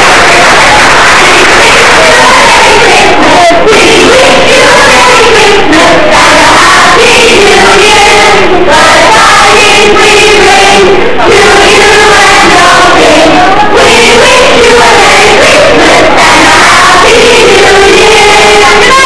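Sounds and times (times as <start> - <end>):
large chorus singing: 0.0 - 19.0.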